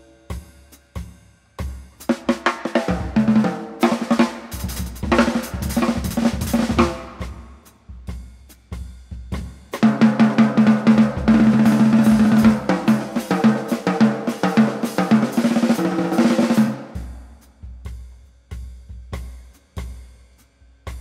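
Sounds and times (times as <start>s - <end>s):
jazz drum kit playing: 0.0s - 21.0s.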